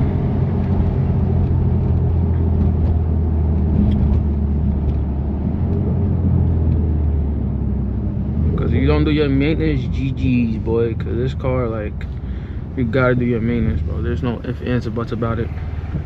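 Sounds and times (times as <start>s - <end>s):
car engine exhaust drone: 0.0s - 16.0s.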